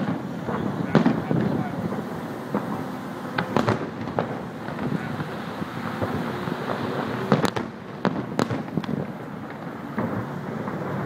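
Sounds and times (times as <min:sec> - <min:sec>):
continuous rumble: 0:00.0 - 0:11.0
fireworks bursting with bangs: 0:00.0 - 0:11.0.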